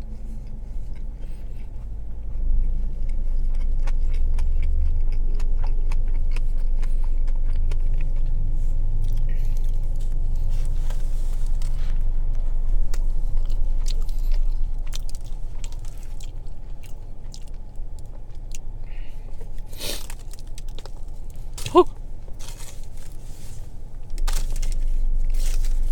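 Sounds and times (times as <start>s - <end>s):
chewing and biting sandwich: 0.0s - 25.9s
low steady rumble: 0.0s - 25.9s.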